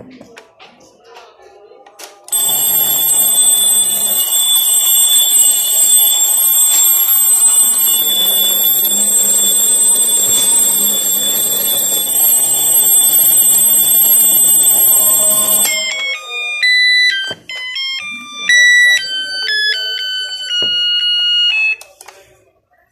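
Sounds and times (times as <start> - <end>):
alarm clock high-pitched tone: 2.3 - 21.8.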